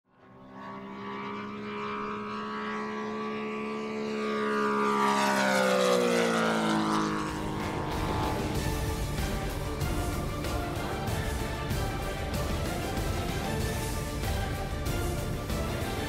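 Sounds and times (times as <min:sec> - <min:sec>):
model plane engine flyby: 0:00.1 - 0:16.0.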